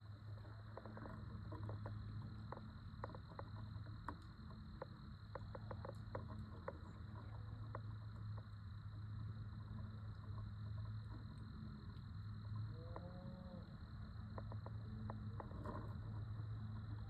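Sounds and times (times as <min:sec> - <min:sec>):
light ticks and crackles: 0:00.0 - 0:17.0
steady low hum: 0:00.0 - 0:17.0.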